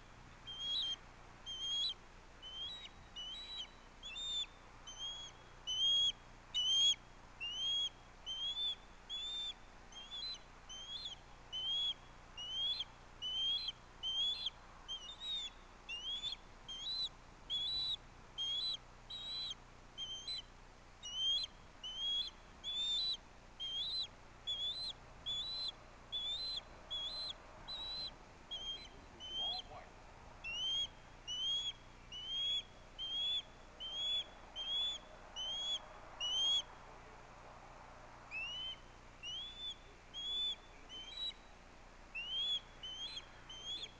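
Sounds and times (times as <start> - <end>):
osprey whistled chirps: 0.4 - 29.8, 30.4 - 36.7, 38.3 - 41.5, 42.1 - 43.9.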